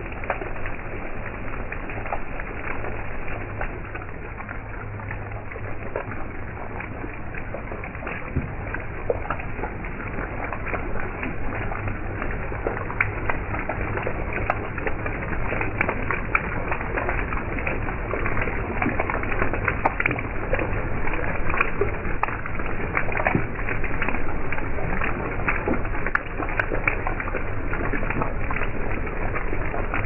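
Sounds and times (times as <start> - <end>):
heavy rain on water: 0.0 - 30.0
low steady hum: 0.0 - 30.0.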